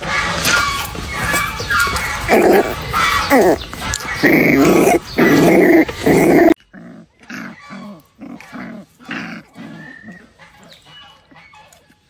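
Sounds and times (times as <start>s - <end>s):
puppy growling: 0.0s - 11.8s.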